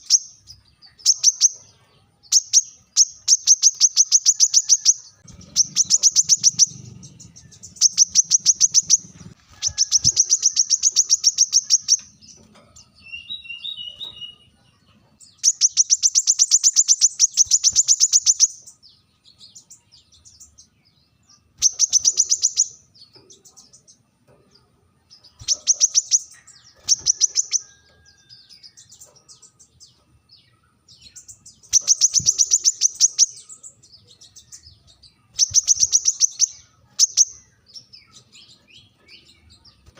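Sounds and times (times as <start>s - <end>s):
lower bird twittering: 0.0s - 1.6s, 2.2s - 12.4s, 15.2s - 24.0s, 25.2s - 39.9s
bird chirping trills: 0.0s - 39.9s.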